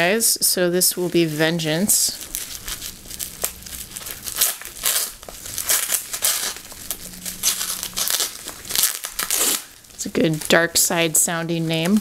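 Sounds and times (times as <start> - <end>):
bubble wrap crinkling: 0.0 - 12.0
tape peeling: 1.2 - 11.0.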